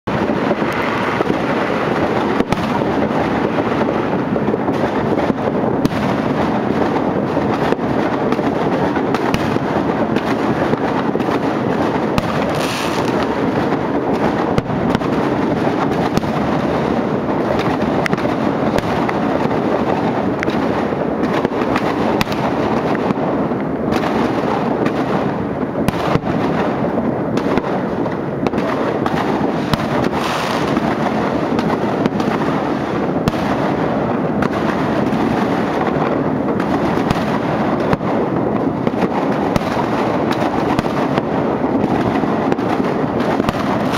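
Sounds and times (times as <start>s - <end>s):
fireworks and firecrackers banging: 0.0s - 43.9s.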